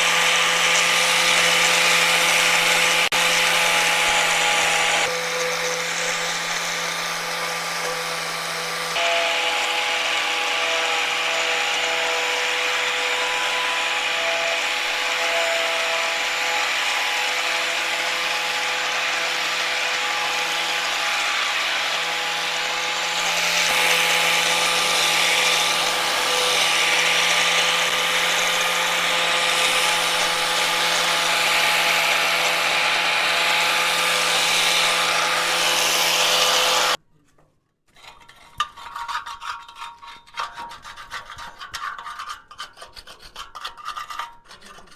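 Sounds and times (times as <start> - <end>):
power tool grinding metal: 0.0 - 37.0.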